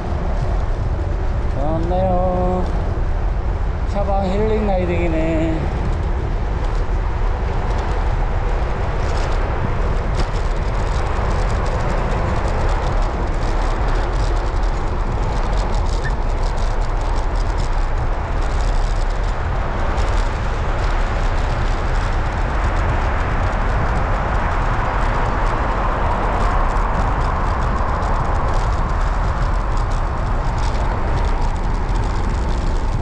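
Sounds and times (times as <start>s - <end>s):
bicycle tyre noise: 0.0s - 33.0s
wind rushing on microphone: 0.0s - 33.0s.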